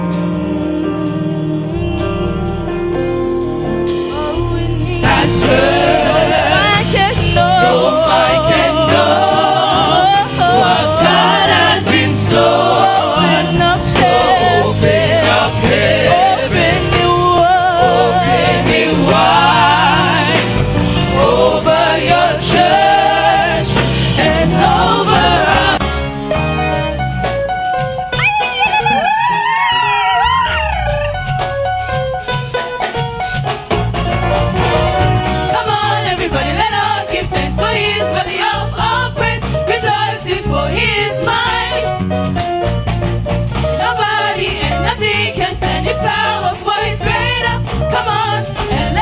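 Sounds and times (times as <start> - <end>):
gospel choir singing: 0.0 - 27.2, 28.6 - 31.6, 34.4 - 49.0
steady bass line: 0.0 - 32.5, 33.2 - 49.0.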